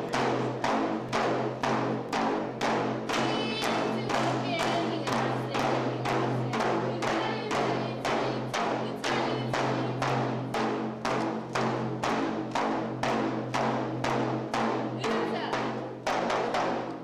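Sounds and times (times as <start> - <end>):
frame drums beating: 0.0 - 17.0.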